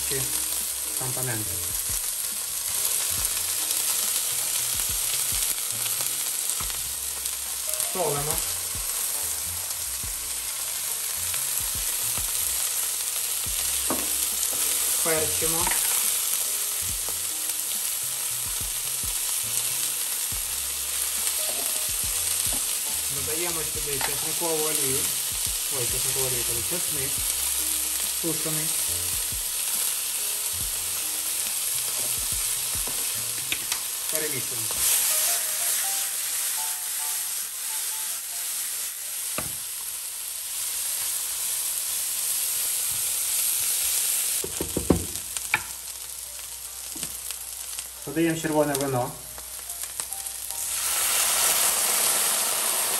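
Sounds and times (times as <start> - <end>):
vegetables sizzling in frying pan: 0.0 - 52.9.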